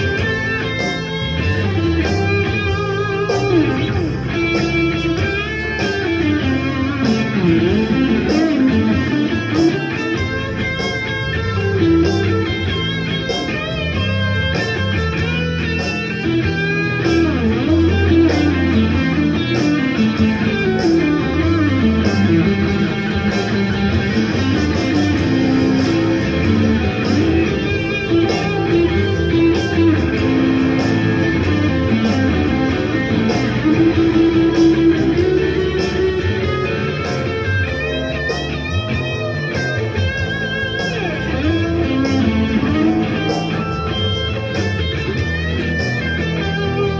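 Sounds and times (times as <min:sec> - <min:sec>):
blues guitar with bent notes: 0:00.0 - 0:46.9.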